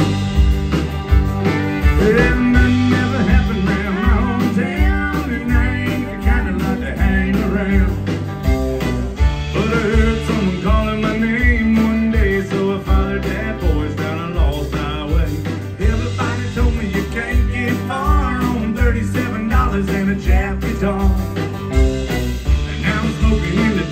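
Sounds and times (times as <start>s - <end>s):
acoustic and electric guitars: 0.0s - 23.9s
drum kit steady beat: 0.0s - 23.9s
electric bass: 0.0s - 23.9s.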